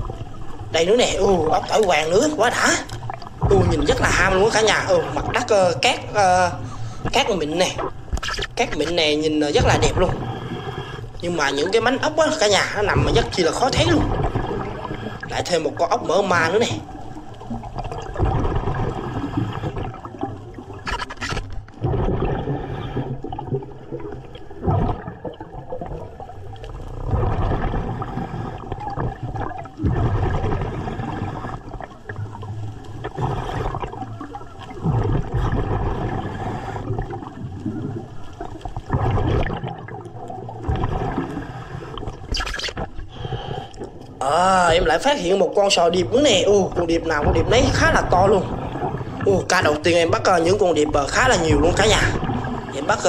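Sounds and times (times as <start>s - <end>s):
exhaled air bubbling underwater: 0.0s - 53.0s.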